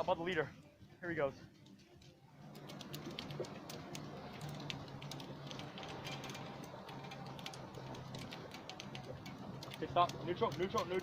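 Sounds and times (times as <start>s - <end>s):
low engine hum: 0.6s - 11.0s.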